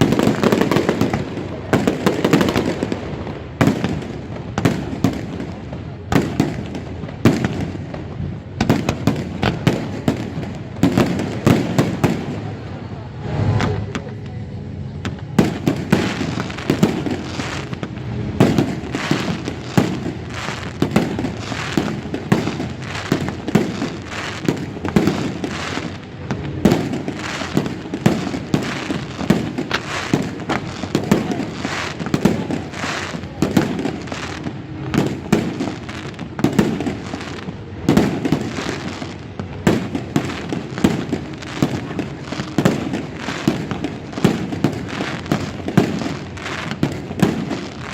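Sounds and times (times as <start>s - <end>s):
fireworks bangs: 0.0s - 14.3s, 14.9s - 47.9s.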